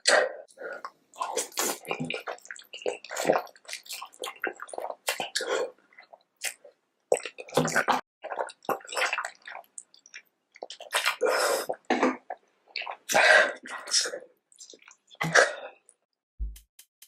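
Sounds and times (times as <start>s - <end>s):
person eating wet mouth sounds: 0.0s - 15.6s.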